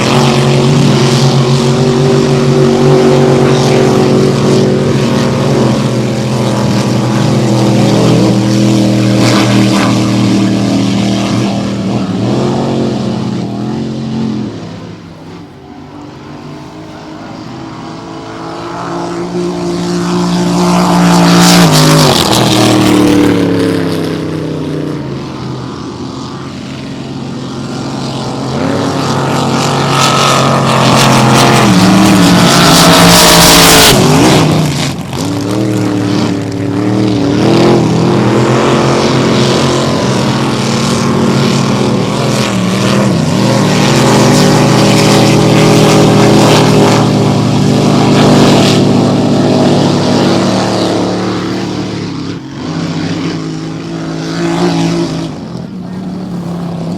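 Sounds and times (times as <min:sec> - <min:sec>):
boat passing close: 0:00.0 - 0:56.9
race boat engines: 0:00.0 - 0:56.9.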